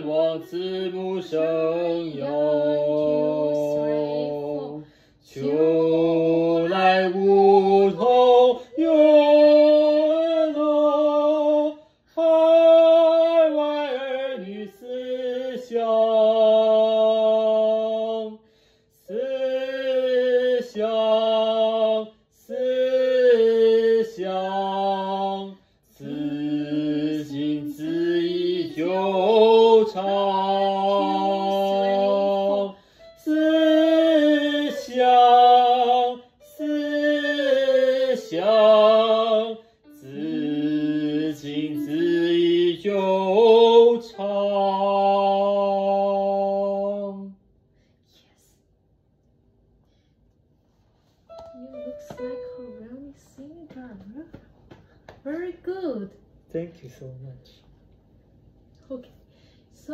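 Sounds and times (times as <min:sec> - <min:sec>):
person singing unaccompanied: 0:00.0 - 0:18.4, 0:19.0 - 0:47.3, 0:51.3 - 0:54.3.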